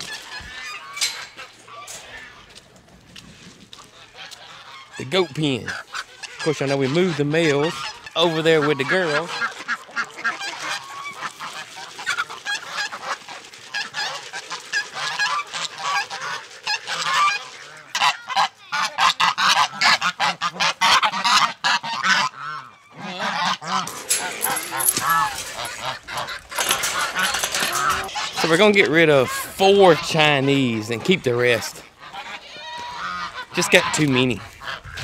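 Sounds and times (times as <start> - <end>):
geese honking: 0.0 - 2.6, 3.8 - 35.0.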